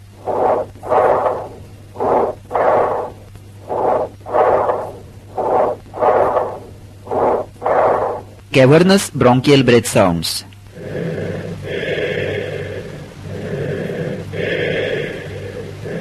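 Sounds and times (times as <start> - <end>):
bronchial breath sounds: 0.0 - 8.4, 10.7 - 16.0.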